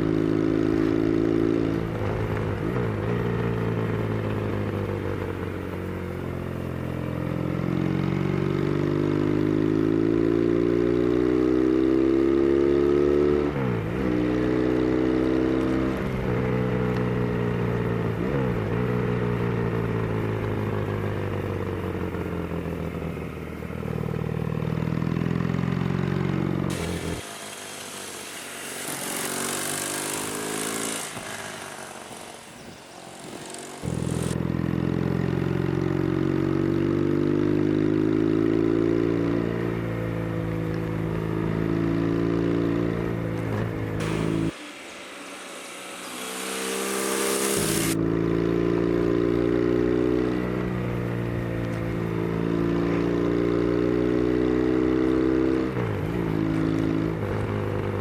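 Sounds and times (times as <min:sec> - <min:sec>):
motorcycle engine pulling uphill: 0:00.0 - 0:58.0.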